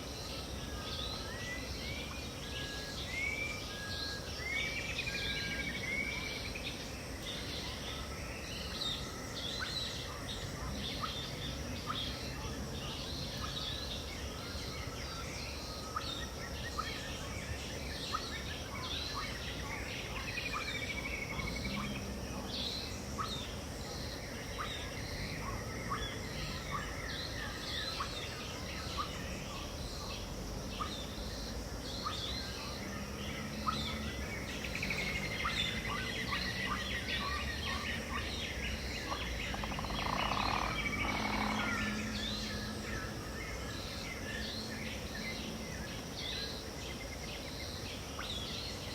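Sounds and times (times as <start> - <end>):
steady high hiss: 0.0 - 48.9
birds chirping and calling: 0.4 - 48.9.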